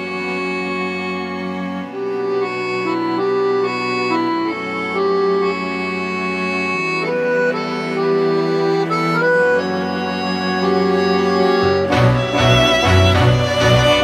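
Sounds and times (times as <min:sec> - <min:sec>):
accordion tango melody: 0:00.0 - 0:14.0
string quartet chords: 0:00.0 - 0:14.0.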